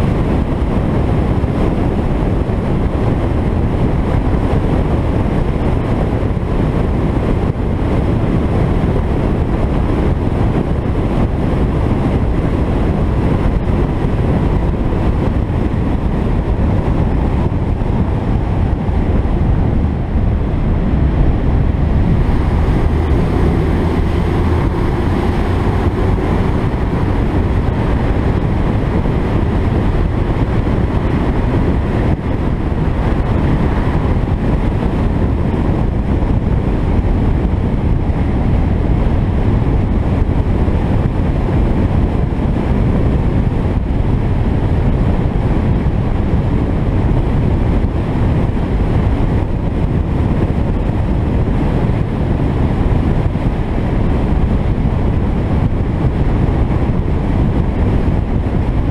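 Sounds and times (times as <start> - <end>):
car engine: 0.0 - 58.9
tyre and wind noise: 0.0 - 58.9
wind buffeting microphone: 0.0 - 58.9.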